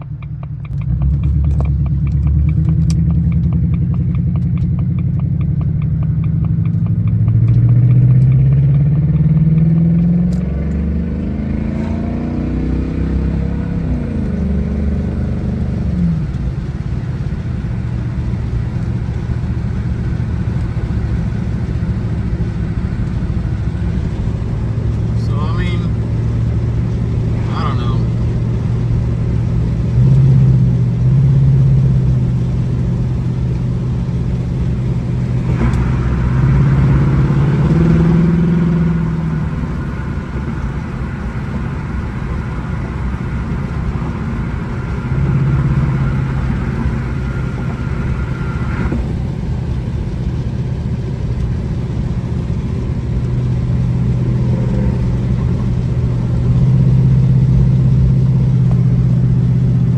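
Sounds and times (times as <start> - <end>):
car engine accelerating: 0.0 - 59.9
road noise: 0.0 - 59.9.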